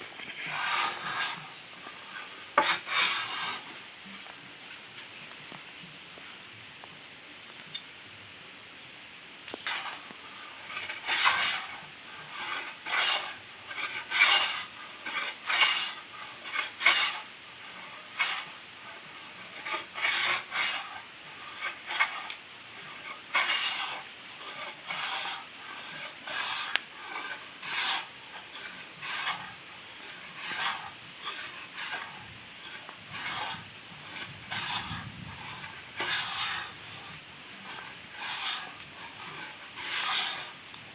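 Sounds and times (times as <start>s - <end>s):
hand plane shaving wood: 0.0s - 5.3s, 9.6s - 40.9s.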